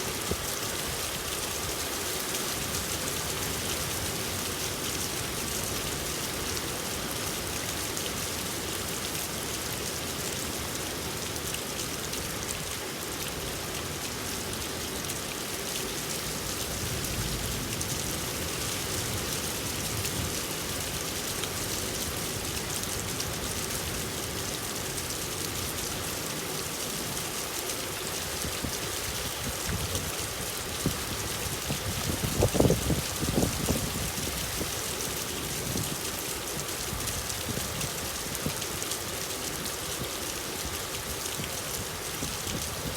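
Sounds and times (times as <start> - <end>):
rain pattering on a surface: 0.0 - 42.9.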